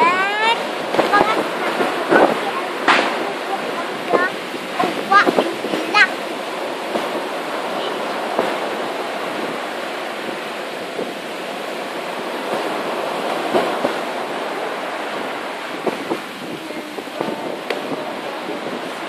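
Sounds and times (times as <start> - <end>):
surf washing: 0.0 - 19.0
wind noise on microphone: 0.0 - 19.0
distant fireworks popping: 0.4 - 19.0.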